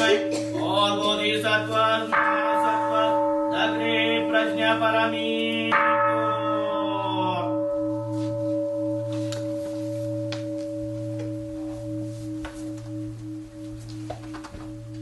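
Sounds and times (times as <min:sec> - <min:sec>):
temple bowl bell ringing: 0:00.0 - 0:15.0.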